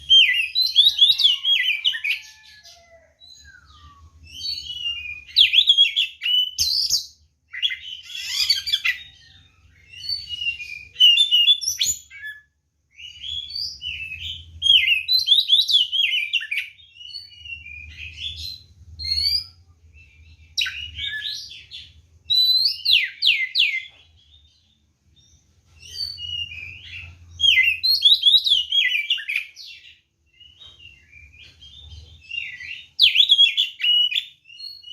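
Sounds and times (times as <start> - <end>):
magpie-robin singing: 0.0 - 2.4, 3.2 - 34.9.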